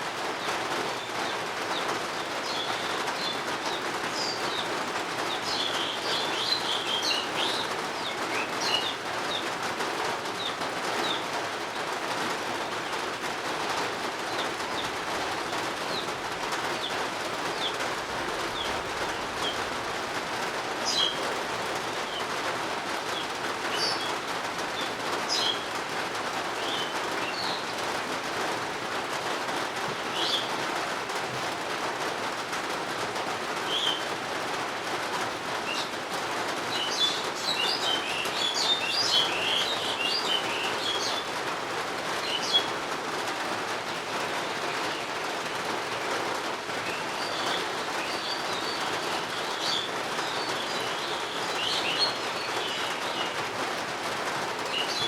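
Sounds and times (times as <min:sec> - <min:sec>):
birds chirping: 0:00.0 - 0:28.0, 0:29.5 - 0:30.9, 0:33.6 - 0:34.1, 0:35.3 - 0:42.9, 0:44.0 - 0:55.0
rain falling: 0:00.0 - 0:55.0.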